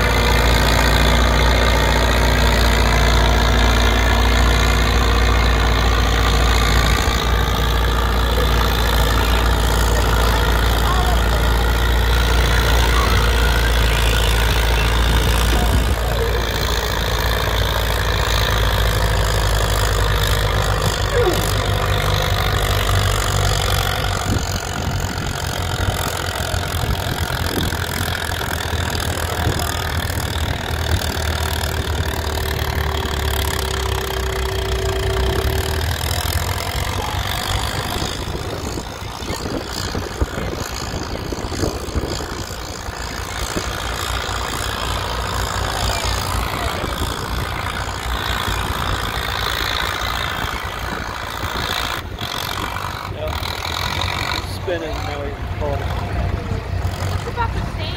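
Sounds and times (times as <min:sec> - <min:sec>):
tractor engines idling: 0:00.0 - 0:57.9.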